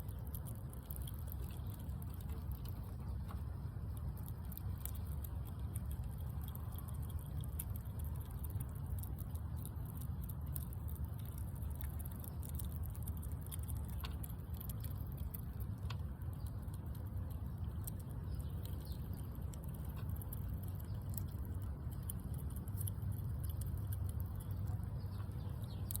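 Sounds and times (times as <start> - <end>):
squirrel cracking seeds: 0.0 - 26.0
steady low rumble: 0.0 - 26.0.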